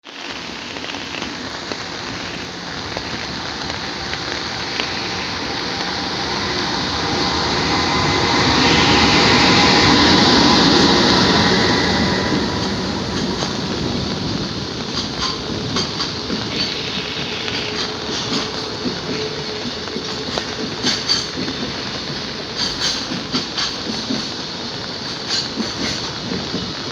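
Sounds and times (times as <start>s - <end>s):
freight train running on rails: 0.0s - 26.9s.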